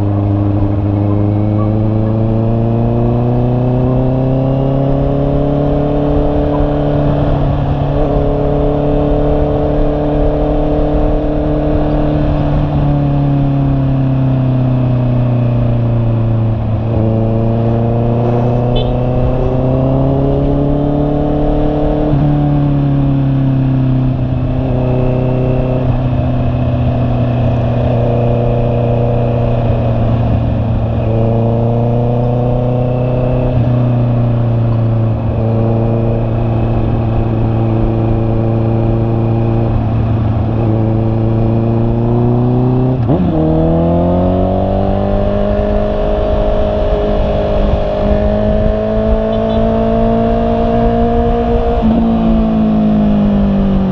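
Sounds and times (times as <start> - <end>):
motorcycle engine revving: 0.0 - 53.9
wind noise: 0.0 - 53.9.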